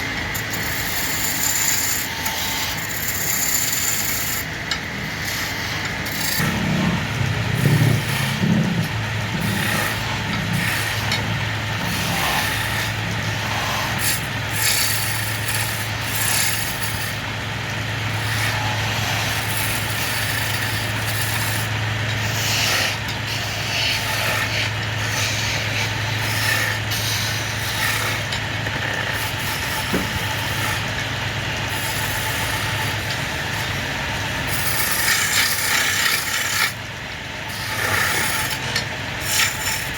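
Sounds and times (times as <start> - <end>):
turning tool cutting wood: 0.0 - 39.9
wood lathe motor hum: 0.0 - 39.9.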